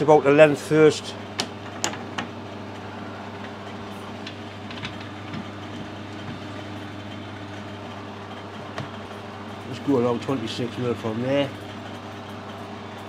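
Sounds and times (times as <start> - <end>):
low electric hum of machinery: 0.0 - 13.0.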